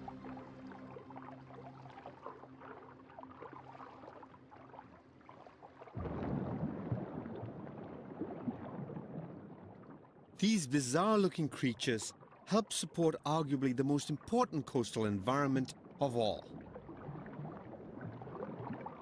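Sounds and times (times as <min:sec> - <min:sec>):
rush of water: 0:00.0 - 0:19.0
water bubbling and gurgling: 0:00.0 - 0:19.0.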